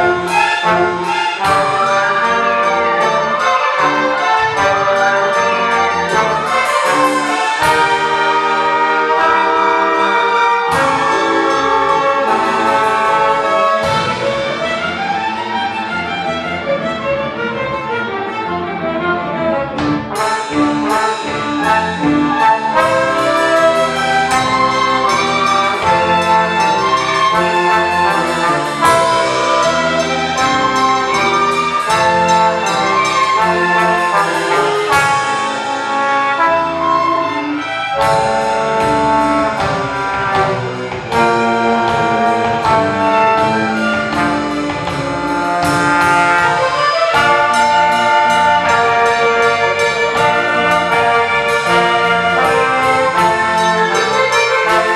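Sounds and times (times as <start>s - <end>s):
orchestra with brass leading: 0.0s - 54.9s.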